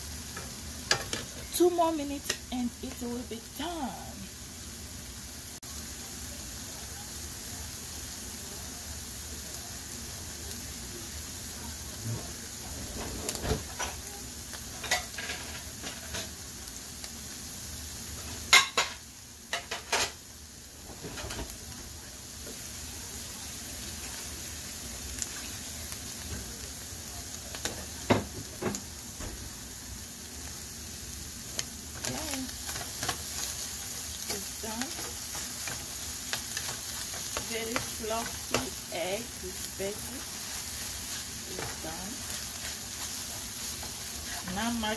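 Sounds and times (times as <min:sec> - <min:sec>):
eggs sizzling in a frying pan: 0:00.0 - 0:44.9.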